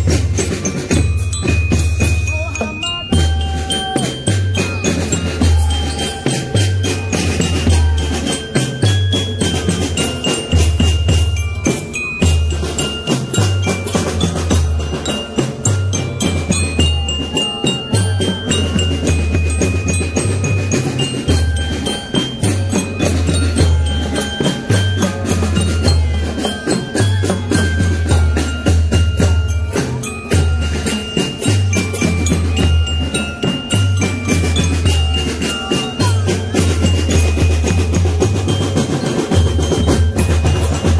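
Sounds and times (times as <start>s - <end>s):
glockenspiel melody: 0.0s - 40.9s
marching drums rattling: 0.0s - 40.9s.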